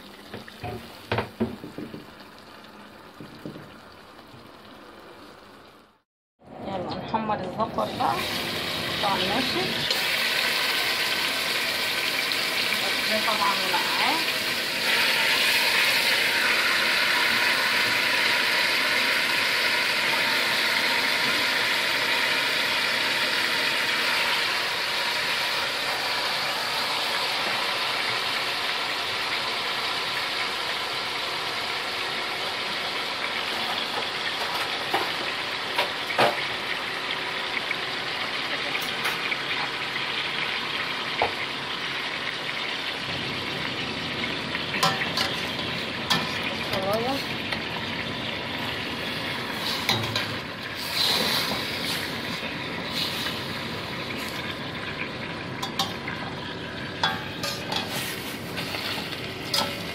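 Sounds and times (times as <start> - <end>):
poultry sizzling in hot oil: 0.0 - 6.0, 7.5 - 59.9.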